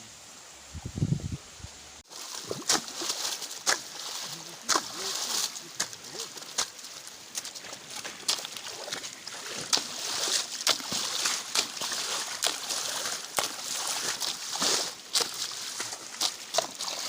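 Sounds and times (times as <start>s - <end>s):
mud sloshing and splashing: 2.0s - 17.0s
digging tool striking wet soil: 2.2s - 17.0s.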